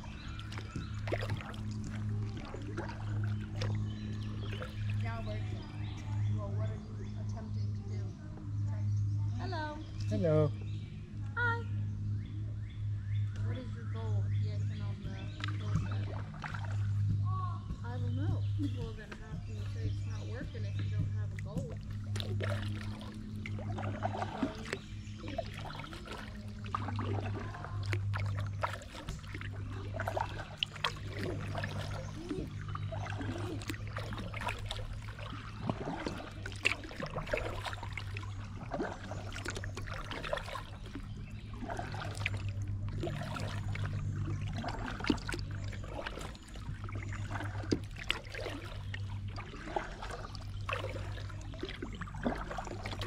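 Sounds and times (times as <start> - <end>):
small splashes: 0.0 - 7.2, 13.2 - 53.0
steady low hum: 0.0 - 53.0
water lapping against kayak hull: 0.0 - 53.0.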